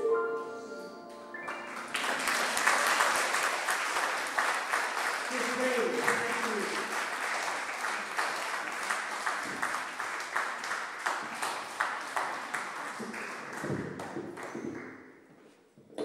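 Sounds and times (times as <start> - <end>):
audience applauding: 1.1 - 15.0.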